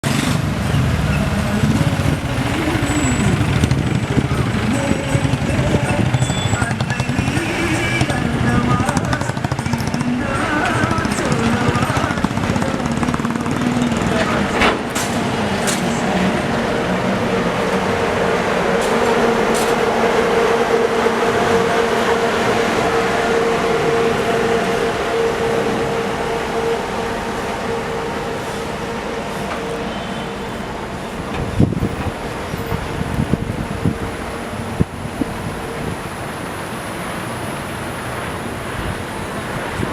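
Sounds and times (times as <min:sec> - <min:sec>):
heavy vehicle engines running: 0:00.0 - 0:39.9
steady tone: 0:02.4 - 0:36.4.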